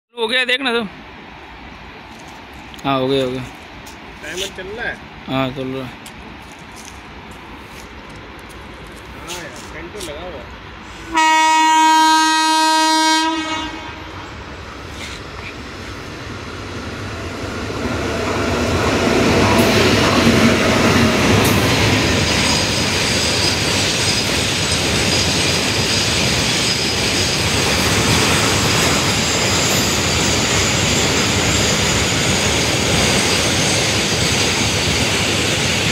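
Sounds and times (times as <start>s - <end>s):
freight train rumble and wheel noise: 0.4s - 35.9s.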